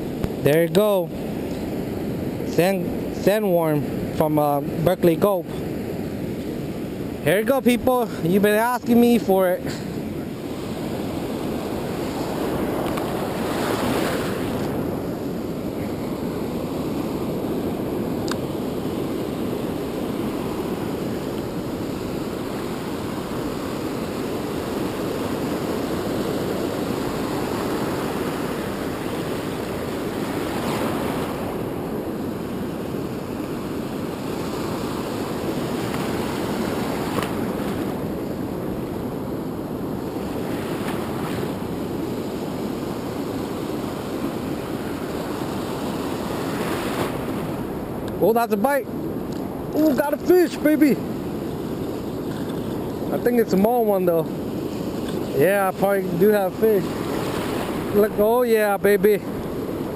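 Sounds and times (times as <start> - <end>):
ocean surf breaking: 0.0 - 59.9.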